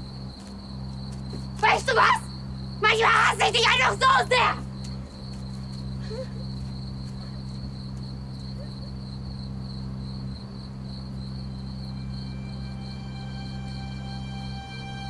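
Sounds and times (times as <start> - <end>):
crickets chirping: 0.0 - 15.0
low steady hum: 0.0 - 15.0.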